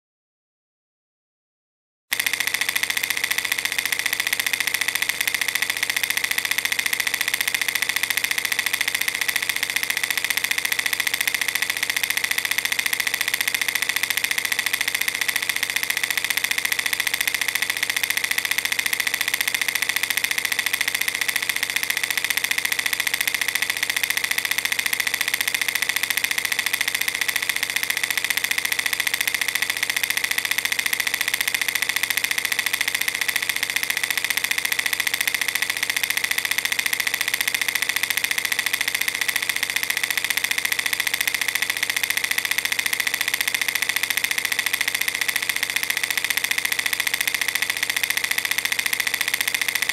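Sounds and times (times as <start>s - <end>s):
film projector rattling: 2.1s - 49.9s.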